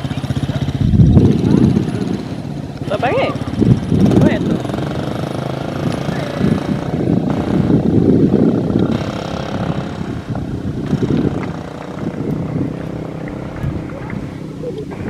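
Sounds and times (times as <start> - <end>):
dirt bike engine rumbling: 0.0 - 15.0.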